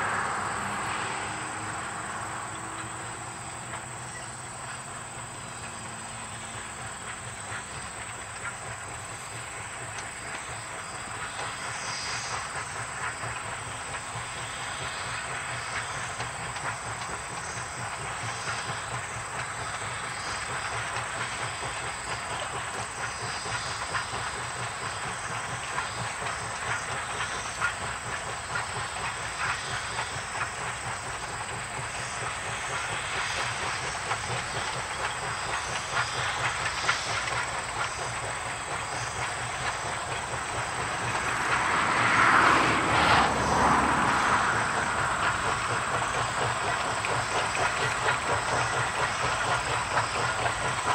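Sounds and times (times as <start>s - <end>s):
steam train rolling and hissing: 0.0s - 50.9s
wheels clicking over rail joints: 0.0s - 50.9s.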